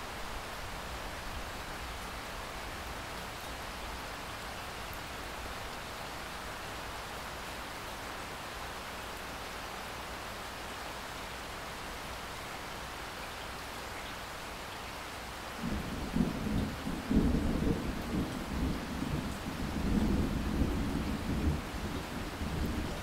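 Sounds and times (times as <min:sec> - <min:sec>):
heavy rain splashing on water: 0:00.0 - 0:23.0.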